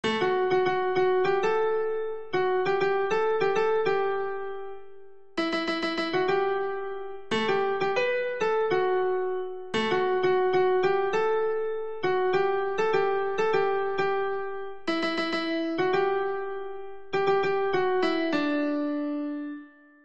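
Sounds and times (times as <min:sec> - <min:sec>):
piano-like keyboard melody: 0:00.0 - 0:20.0.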